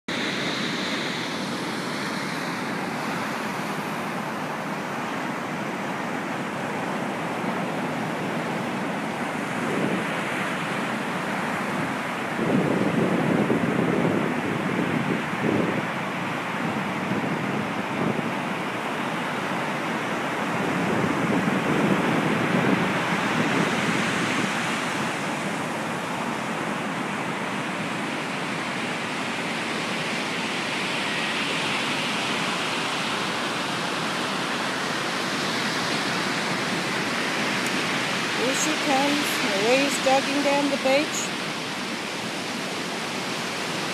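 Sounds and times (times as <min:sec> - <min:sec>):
ocean surf breaking on beach: 0:00.1 - 0:43.9.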